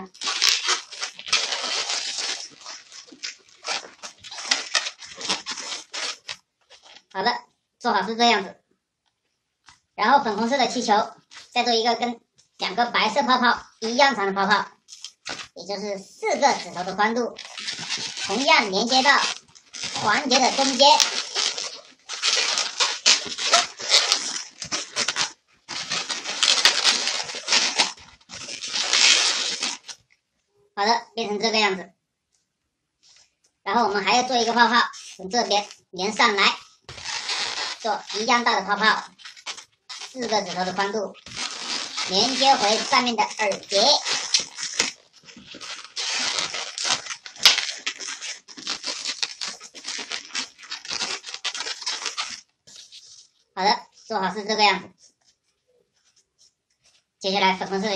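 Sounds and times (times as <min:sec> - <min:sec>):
balloons squeaking and rubbing: 0:00.0 - 0:07.3, 0:10.0 - 0:30.0, 0:33.7 - 0:55.4, 0:56.0 - 0:57.9.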